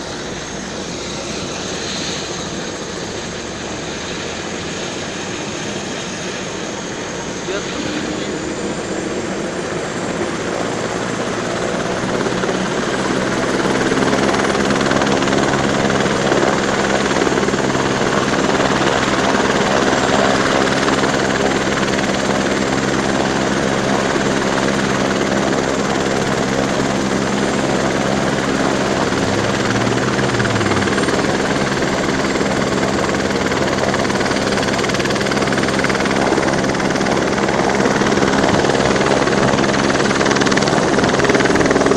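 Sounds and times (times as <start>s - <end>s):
helicopter rotor and engine: 0.0s - 41.9s.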